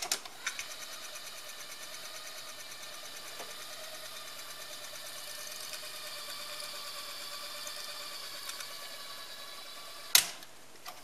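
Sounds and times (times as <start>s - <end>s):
cassette deck motor whirring: 0.0s - 10.5s.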